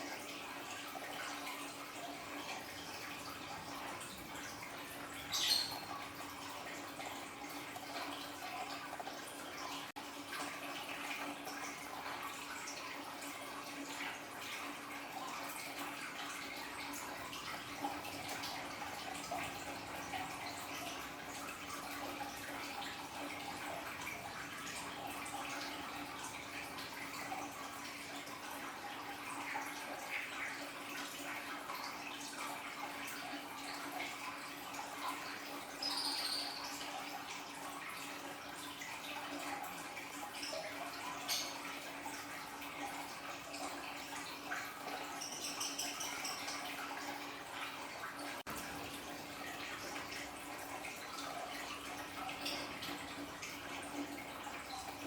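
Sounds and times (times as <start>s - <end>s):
aquarium waterfall splashing: 0.0s - 55.0s
water drips: 0.0s - 55.0s.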